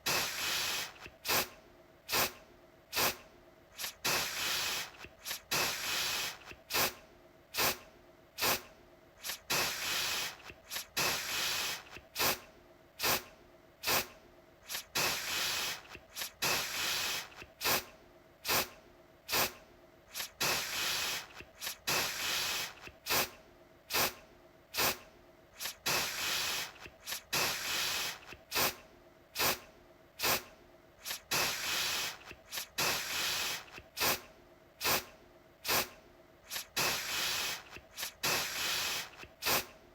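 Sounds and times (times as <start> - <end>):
aerosol can spraying: 0.0 - 1.5, 2.1 - 3.2, 3.8 - 7.0, 7.6 - 7.8, 8.4 - 12.4, 13.0 - 18.7, 19.3 - 24.2, 24.8 - 25.0, 25.6 - 28.8, 29.4 - 29.6, 30.2 - 35.9, 36.5 - 39.7.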